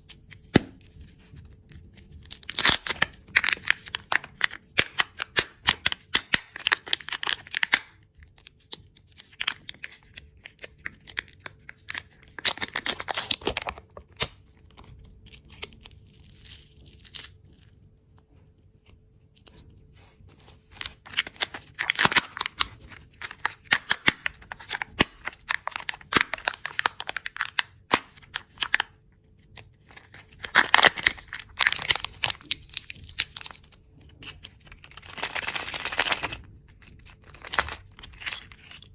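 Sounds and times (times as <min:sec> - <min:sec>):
candy packaging crinkling: 0:00.5 - 0:17.9, 0:19.4 - 0:38.9.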